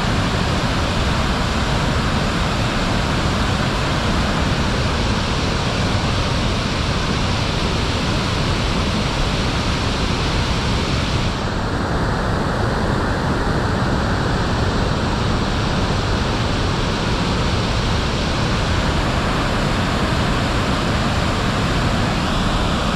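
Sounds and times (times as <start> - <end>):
waterfall rushing: 0.0 - 11.7, 15.3 - 22.9.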